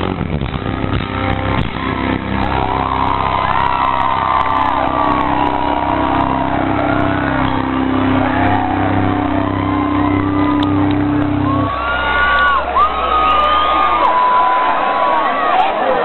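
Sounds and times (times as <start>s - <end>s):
rock band sustained chord: 0.0s - 13.4s
crowd screaming and cheering: 0.0s - 16.0s.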